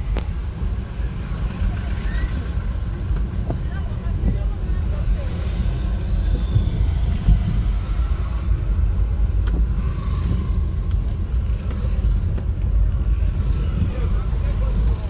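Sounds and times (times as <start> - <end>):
motorcycle engines: 0.0 - 15.0
vehicle rumbling on dirt road: 0.0 - 15.0.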